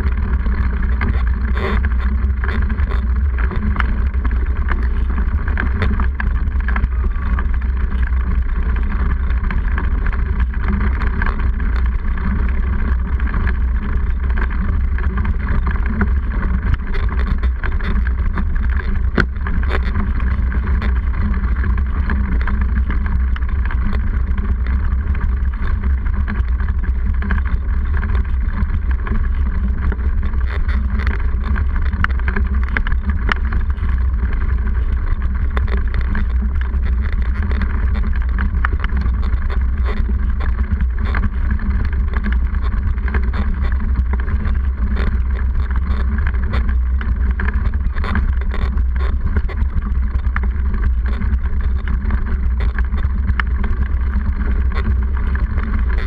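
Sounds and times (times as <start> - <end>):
bike tyre road vibration: 0.0 - 56.0
small clicks and rattles: 0.0 - 56.0
wind rumble: 0.0 - 56.0.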